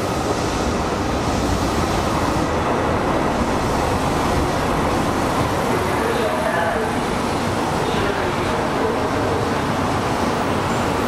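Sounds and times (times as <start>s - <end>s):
electric trains rumbling and hissing: 0.0s - 11.0s.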